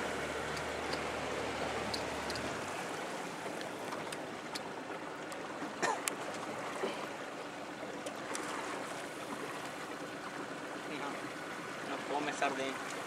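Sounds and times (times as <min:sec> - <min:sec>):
water lapping around a boat: 0:00.0 - 0:13.0.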